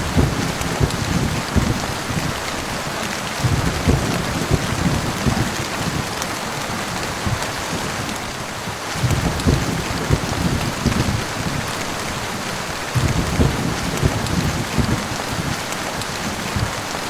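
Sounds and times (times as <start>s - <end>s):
heavy rain falling: 0.0s - 17.0s
low rumbling thunder: 0.0s - 17.0s.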